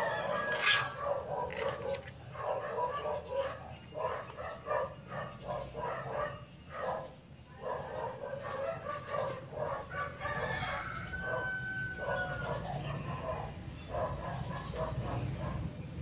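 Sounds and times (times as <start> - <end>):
farm animals calling: 0.0 - 15.2.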